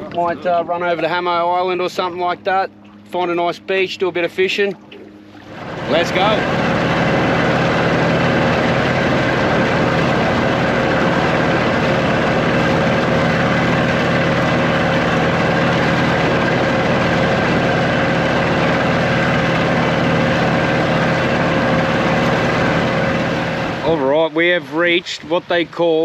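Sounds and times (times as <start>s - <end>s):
boat engine drone: 0.0s - 26.0s
rushing water noise: 4.3s - 26.0s.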